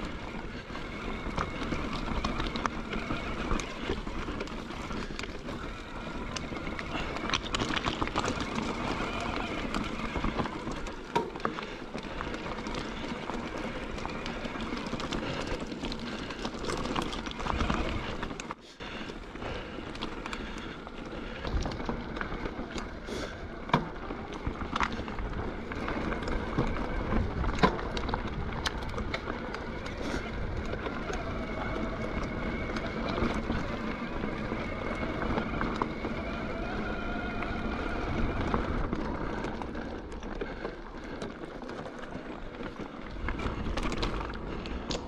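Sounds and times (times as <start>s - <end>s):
bike knocking and rattling: 0.0s - 45.0s
tyres crunching over gravel: 0.0s - 45.0s.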